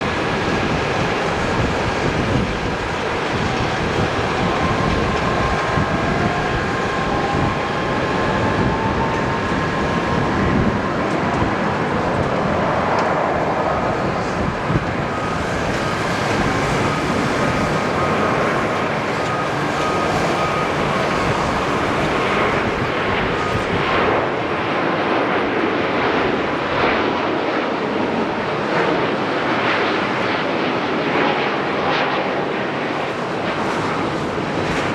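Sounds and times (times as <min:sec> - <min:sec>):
jet engines roaring with whine: 0:00.0 - 0:34.9.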